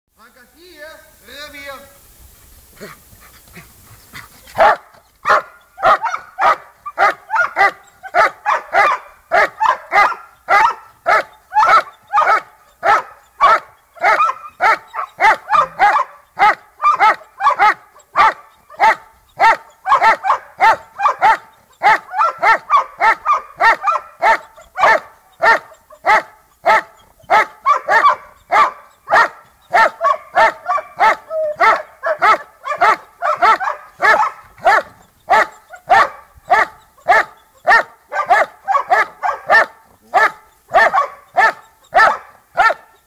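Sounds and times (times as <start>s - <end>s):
dog barking rapidly: 4.5s - 43.0s.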